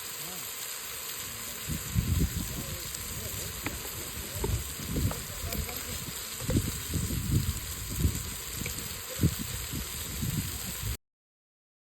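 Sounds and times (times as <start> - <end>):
chicken bubbling and sizzling in a pot: 0.0 - 11.0.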